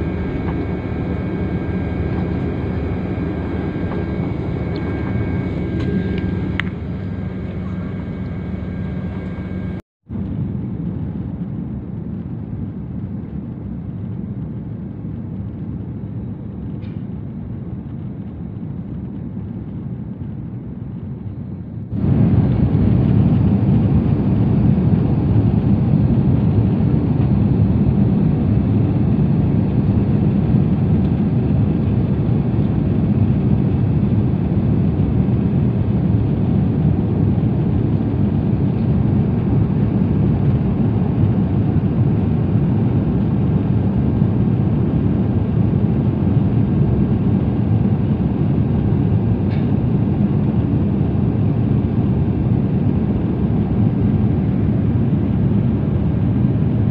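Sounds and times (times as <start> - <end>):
jet airliner cabin noise: 0.0 - 56.9.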